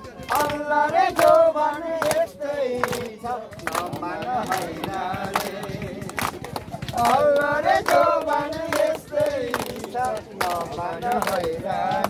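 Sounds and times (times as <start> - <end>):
group clapping in time: 0.0 - 12.0
people singing unaccompanied: 0.0 - 12.0.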